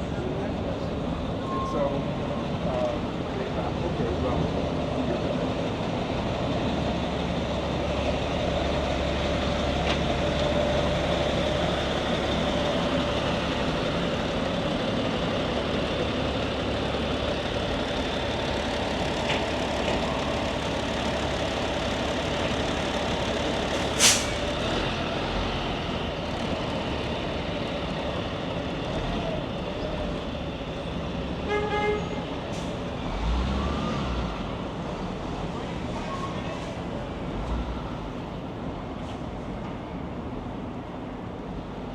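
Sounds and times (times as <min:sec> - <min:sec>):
heavy street traffic: 0:00.0 - 0:41.9.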